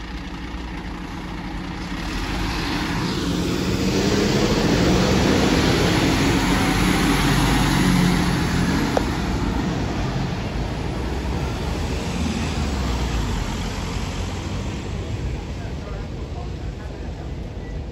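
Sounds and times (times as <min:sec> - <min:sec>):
city traffic noise: 0:00.0 - 0:17.9
fire engine diesel driving past: 0:00.0 - 0:17.9.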